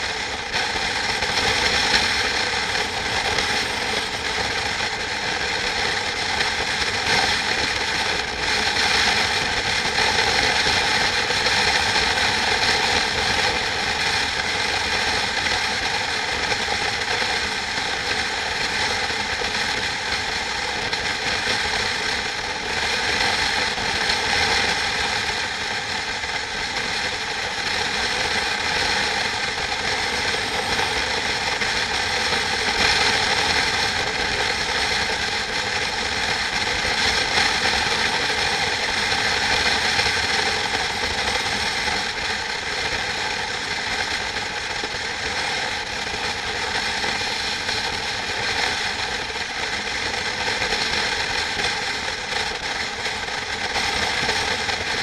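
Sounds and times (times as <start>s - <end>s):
machine running steadily: 0.0s - 55.0s.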